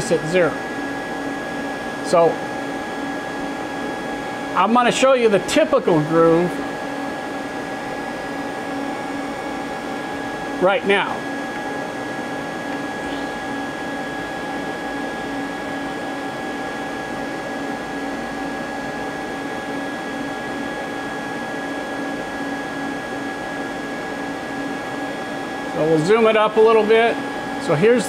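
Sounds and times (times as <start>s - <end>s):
machine hum with whining tones: 0.0s - 28.0s.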